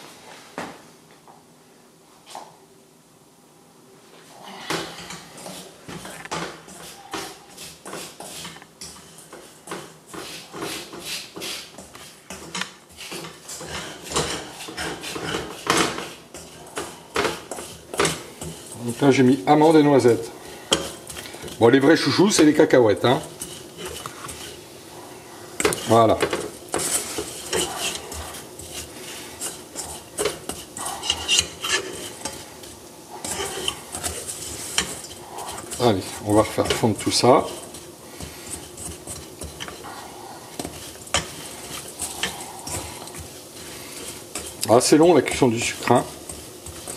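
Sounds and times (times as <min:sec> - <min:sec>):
spatula scraping nuts in a pan: 0:04.7 - 0:46.9.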